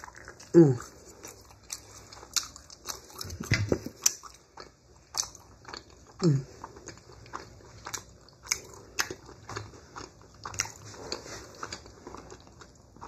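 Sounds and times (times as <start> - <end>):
wet chewing mouth sounds: 0.0 - 13.0.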